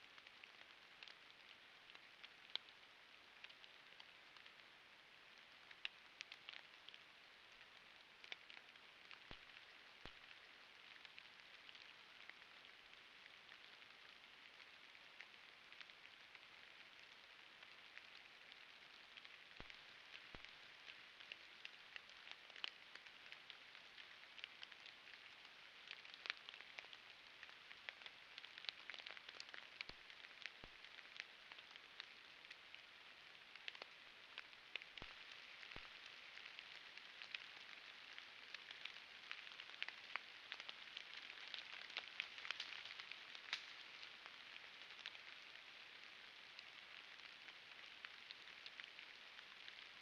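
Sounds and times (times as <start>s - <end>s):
raindrops pattering: 0.0s - 50.0s.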